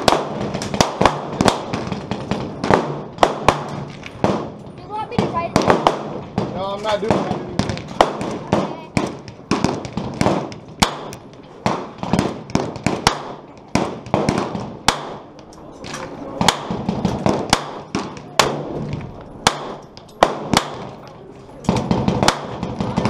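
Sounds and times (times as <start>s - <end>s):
rifle gunshots: 0.0s - 4.6s, 5.2s - 15.4s, 16.4s - 23.0s.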